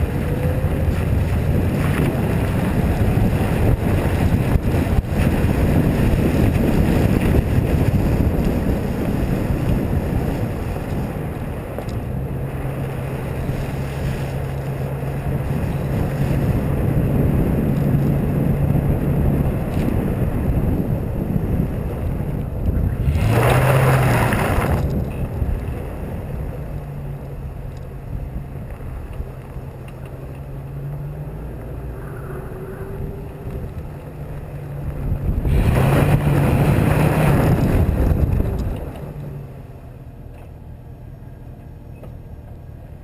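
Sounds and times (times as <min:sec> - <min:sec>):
car engine running: 0:00.0 - 0:43.0
wind and road noise: 0:00.0 - 0:43.0.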